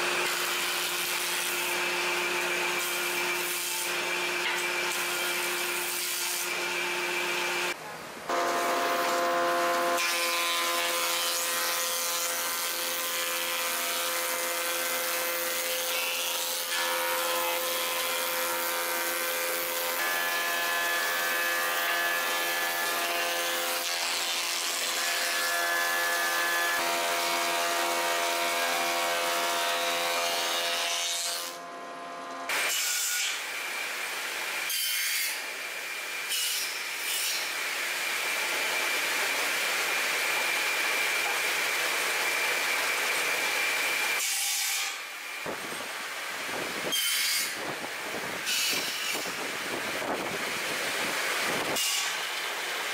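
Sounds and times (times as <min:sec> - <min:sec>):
thickness planer whining: 0:00.0 - 0:52.9.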